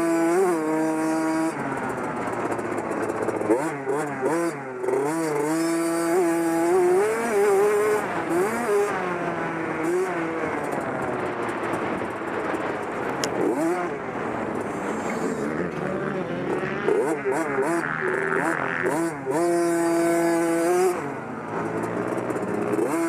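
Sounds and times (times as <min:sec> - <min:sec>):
dirt bike engine accelerating: 0:00.0 - 0:23.0.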